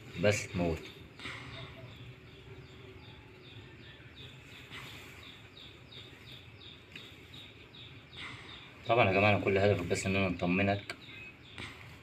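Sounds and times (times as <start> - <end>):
faint background noise: 0.0 - 12.0
small bird chirping: 0.0 - 12.0.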